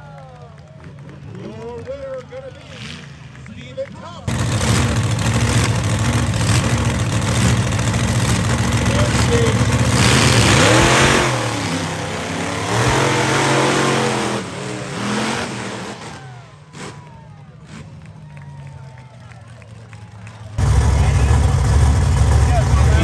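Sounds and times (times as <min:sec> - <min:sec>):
monster truck engine revving: 0:00.8 - 0:03.5, 0:04.2 - 0:19.0, 0:19.6 - 0:23.0.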